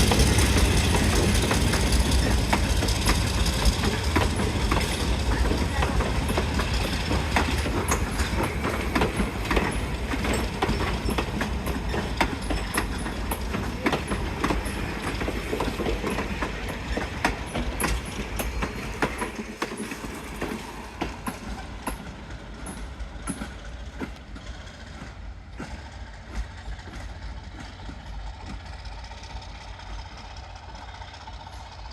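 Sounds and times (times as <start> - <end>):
diesel locomotive engine rumbling: 0.0 - 31.9
wheels clacking on rail joints: 0.0 - 31.9.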